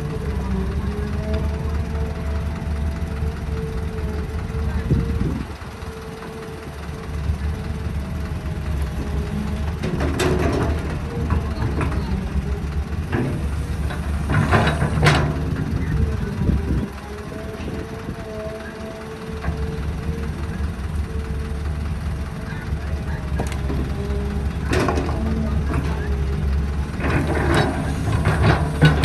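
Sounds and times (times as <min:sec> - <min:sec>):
diesel engine rumbling: 0:00.0 - 0:29.0
machinery clanking and scraping: 0:00.0 - 0:29.0.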